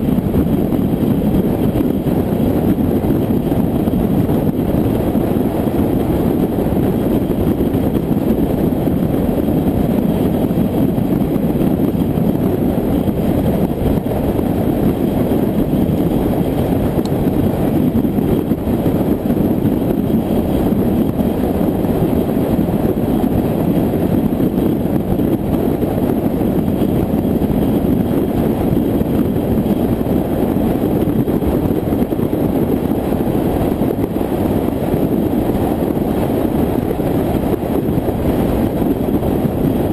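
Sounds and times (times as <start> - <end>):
car cruising on highway: 0.0 - 39.9.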